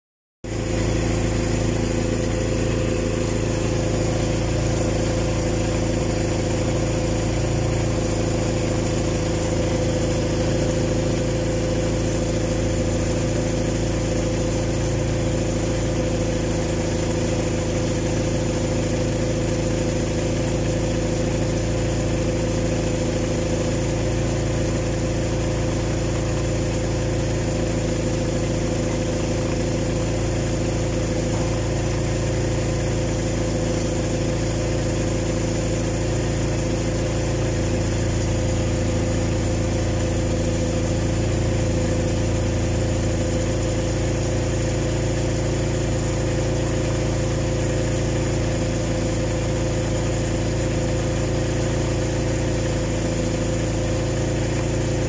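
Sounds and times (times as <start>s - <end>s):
forklift engine idling: 0.4s - 55.0s.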